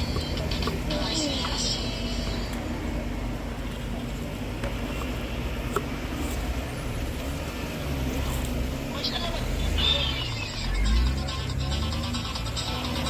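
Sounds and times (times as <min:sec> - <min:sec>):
low engine rumble: 0:00.0 - 0:13.0
street traffic: 0:00.0 - 0:13.0.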